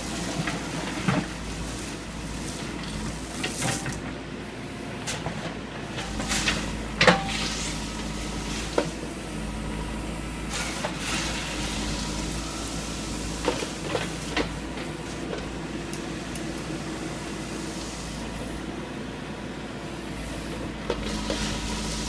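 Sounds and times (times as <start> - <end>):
backhoe engine running: 0.0 - 22.0.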